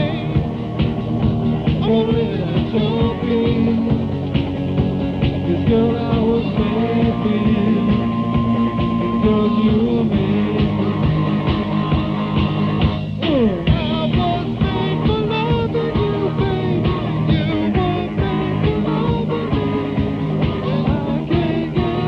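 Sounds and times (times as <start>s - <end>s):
drums: 0.0s - 22.0s
rock band playing: 0.0s - 22.0s.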